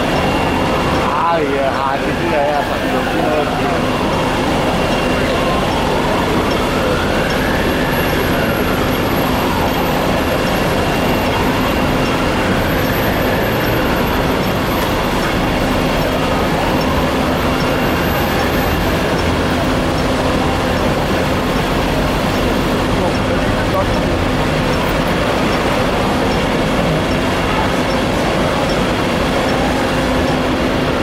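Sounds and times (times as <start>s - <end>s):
fire engine pumps running: 0.0s - 31.0s
siren wailing: 0.0s - 31.0s.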